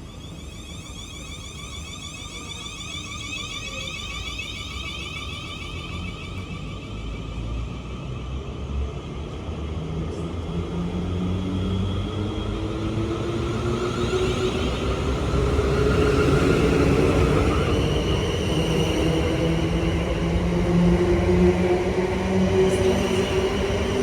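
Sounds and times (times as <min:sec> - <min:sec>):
passenger train passing: 0:00.0 - 0:24.0.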